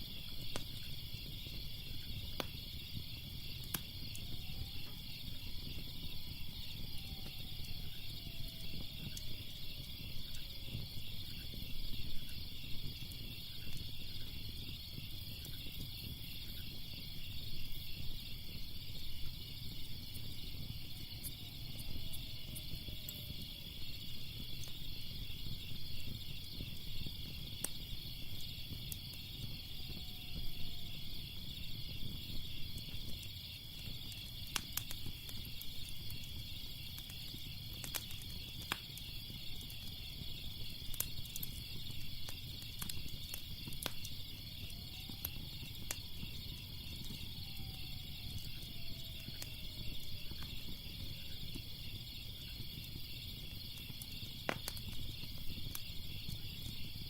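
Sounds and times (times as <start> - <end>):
crickets chirping: 0.0 - 57.0
fire crackling and popping: 0.0 - 57.0.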